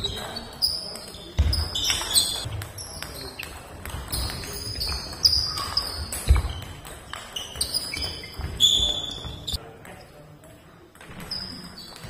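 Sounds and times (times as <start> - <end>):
shoes squeaking on floor: 0.0 - 9.6, 11.0 - 12.0.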